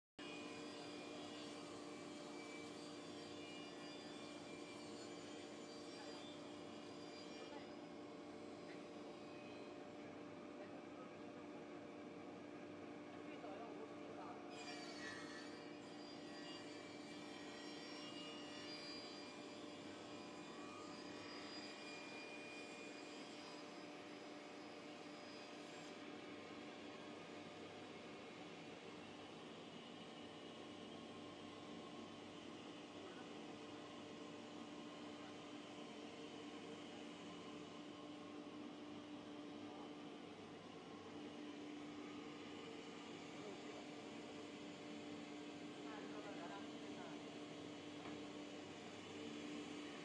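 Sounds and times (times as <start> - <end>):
high whine of spinning blade: 0.2 - 11.0, 13.3 - 50.0.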